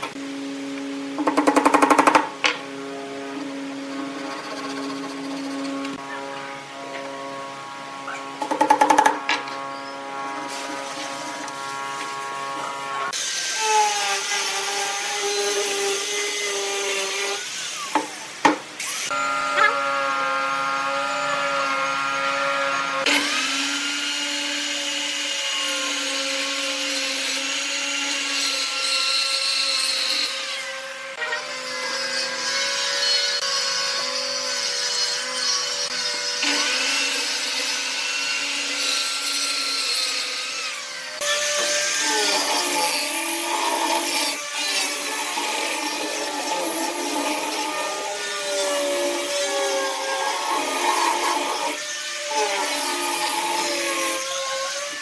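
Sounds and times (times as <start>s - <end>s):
circular saw cutting wood: 0.0s - 55.0s
power tool with shifting pitch: 0.0s - 55.0s.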